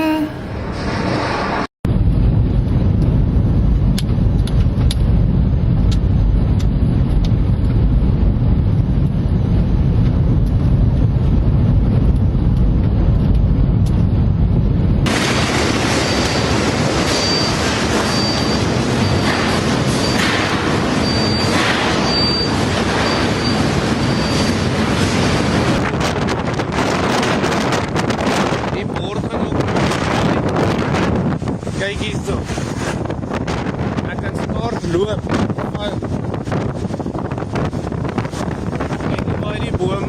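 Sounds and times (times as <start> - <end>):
storm wind buffeting microphone: 0.0 - 40.0.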